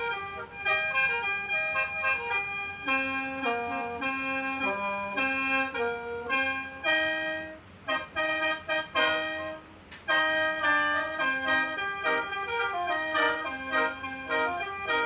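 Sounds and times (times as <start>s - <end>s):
bamboo mouth organ melody: 0.0s - 15.0s.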